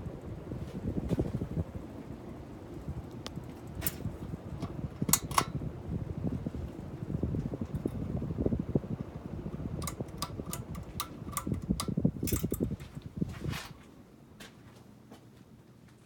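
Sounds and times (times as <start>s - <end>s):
ceiling fan airflow rumble: 0.0s - 16.0s.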